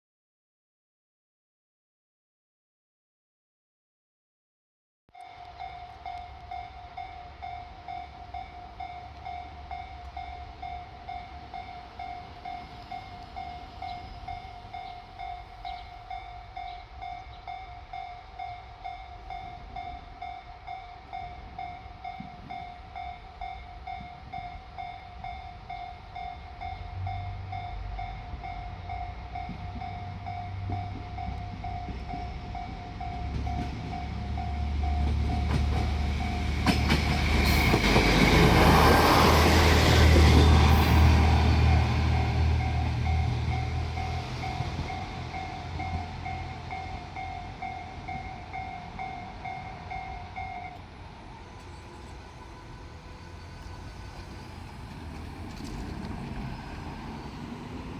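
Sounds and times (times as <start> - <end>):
diesel railcar engine rumble: 5.2 - 57.9
level-crossing warning bell dinging: 5.2 - 57.9.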